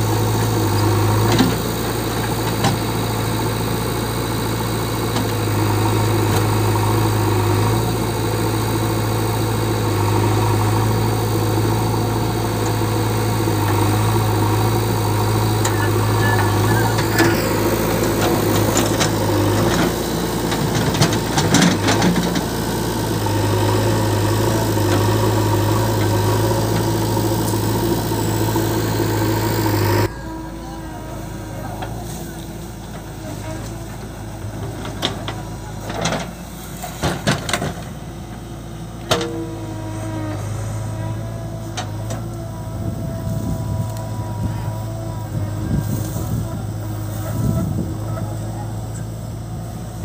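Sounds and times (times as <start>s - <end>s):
diesel engines running: 0.0s - 50.0s.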